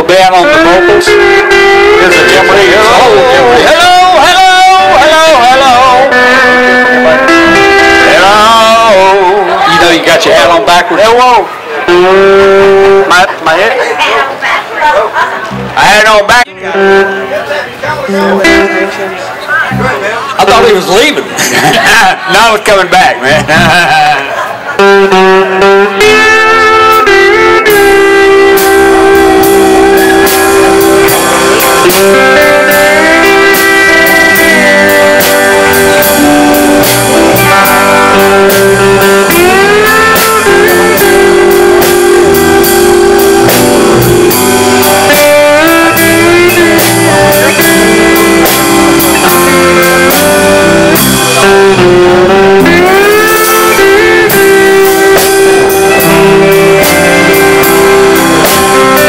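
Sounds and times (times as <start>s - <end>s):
electric bass: 0.0s - 10.6s, 11.4s - 13.4s, 15.4s - 22.3s, 23.1s - 59.0s
steel guitar melody: 0.0s - 13.4s, 16.5s - 21.4s, 23.2s - 59.0s
electric guitar: 0.0s - 22.5s, 23.2s - 59.0s.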